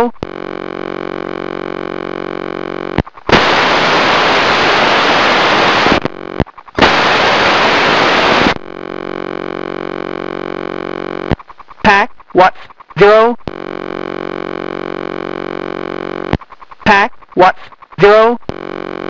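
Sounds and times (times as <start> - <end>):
bursts of hissing static: 0.0 - 19.0
steady electrical buzz: 0.0 - 19.0.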